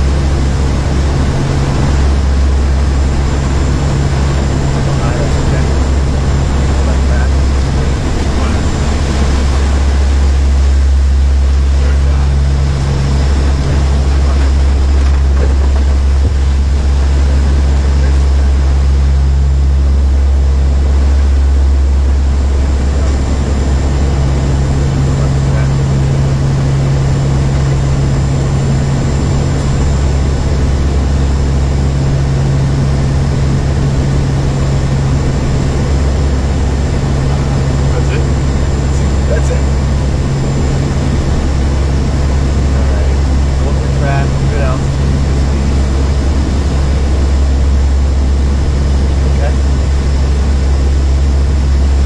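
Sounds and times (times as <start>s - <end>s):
constant rushing noise: 0.0s - 52.0s
deep propeller hum: 0.0s - 52.0s.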